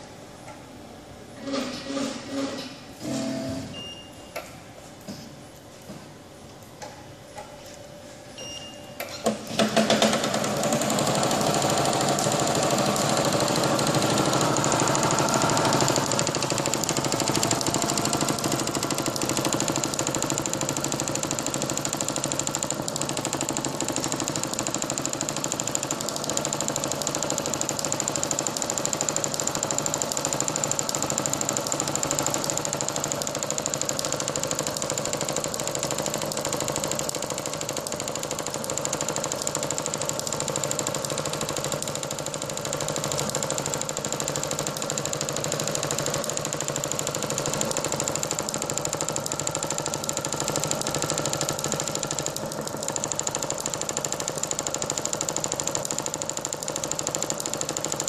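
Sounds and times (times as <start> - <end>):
machine mechanical clatter: 9.0 - 58.0.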